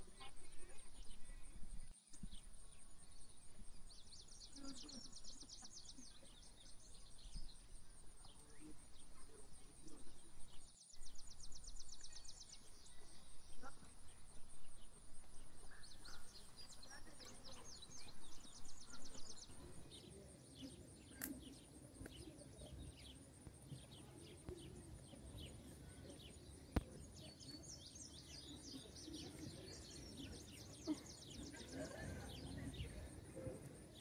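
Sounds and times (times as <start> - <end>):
birds singing: 0.0 - 34.0.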